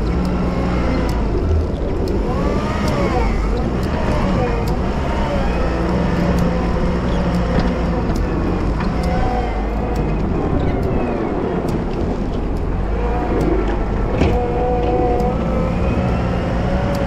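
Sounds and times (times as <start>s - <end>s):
diesel engine running: 0.0s - 17.0s
sharp ticks: 0.0s - 17.0s
wavering whine: 0.0s - 17.0s.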